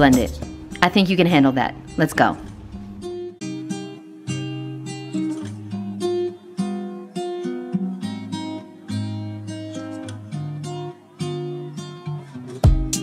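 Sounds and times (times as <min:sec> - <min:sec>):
plucked acoustic guitar tune: 0:00.0 - 0:13.0.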